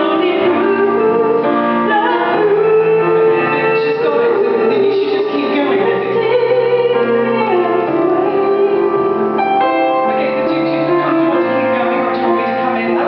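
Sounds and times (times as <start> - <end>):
piano accompaniment: 0.0 - 13.0.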